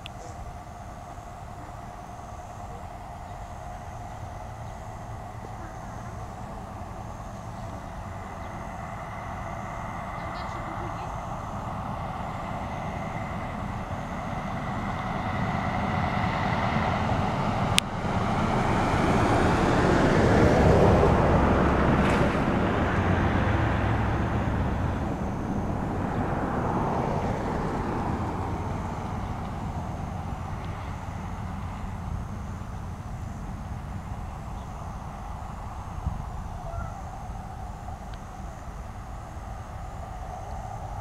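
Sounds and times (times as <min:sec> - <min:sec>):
passing vehicle rushing: 0:00.0 - 0:41.0.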